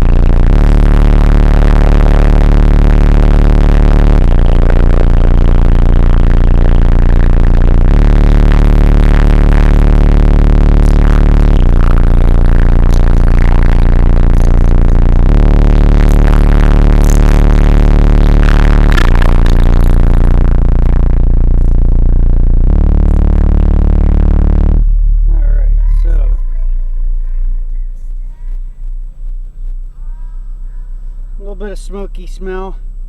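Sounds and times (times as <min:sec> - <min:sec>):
bass-heavy electronic music: 0:00.0 - 0:33.0.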